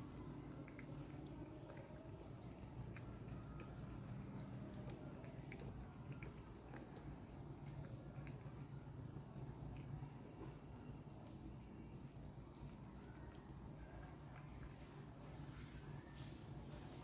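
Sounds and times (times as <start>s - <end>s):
cat chewing food: 0.0s - 17.0s.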